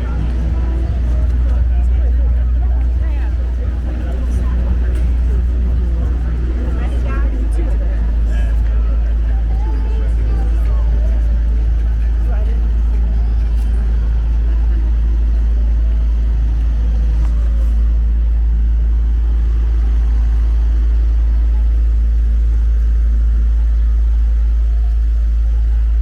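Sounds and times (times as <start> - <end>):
deep street rumble: 0.0 - 26.0
traffic hum: 0.0 - 26.0.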